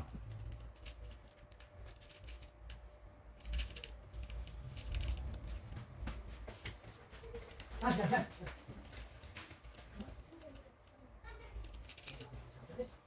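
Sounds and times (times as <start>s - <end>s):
cat crunching dry kibble: 0.0s - 6.3s, 7.4s - 13.0s.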